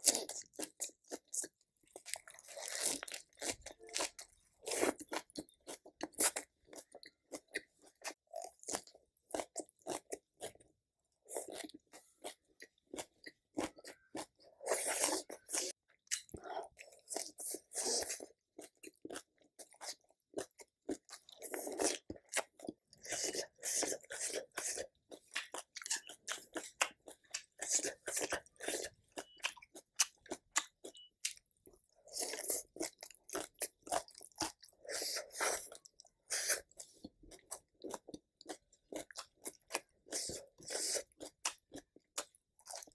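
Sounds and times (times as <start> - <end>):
person crunching and chewing food: 0.0 - 42.9.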